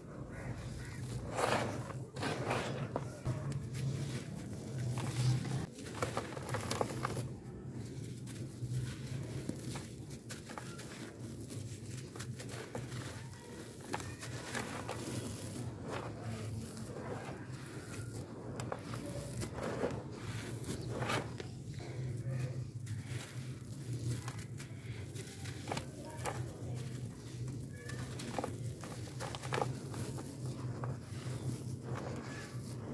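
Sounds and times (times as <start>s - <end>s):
charcoal crunching by hand: 0.2s - 32.9s.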